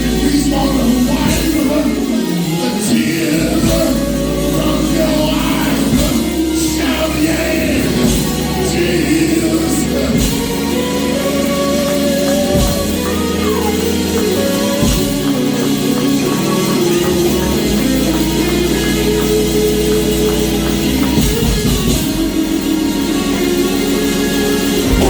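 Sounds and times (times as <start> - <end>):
church band playing worship music: 0.0 - 25.0
drum kit: 0.0 - 25.0.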